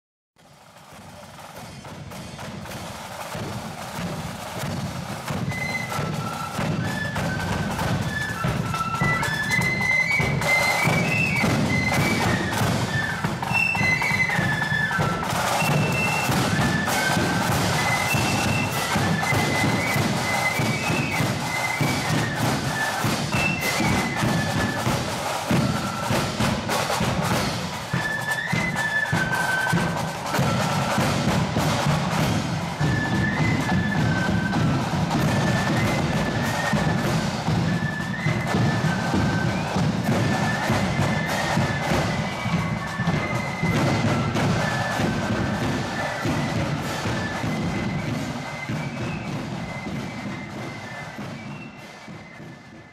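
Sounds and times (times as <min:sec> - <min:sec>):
side drums beating: 0:00.4 - 0:52.9
flutes playing high melody: 0:02.1 - 0:52.9.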